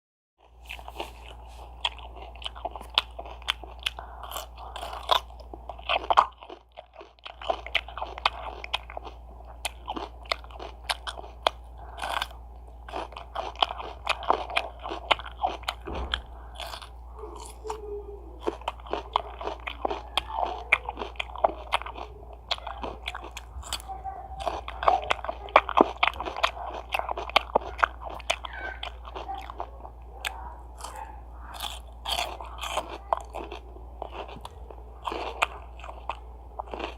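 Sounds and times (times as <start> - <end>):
crunchy chewing: 0.4 - 36.9
steady low hum: 0.4 - 36.9.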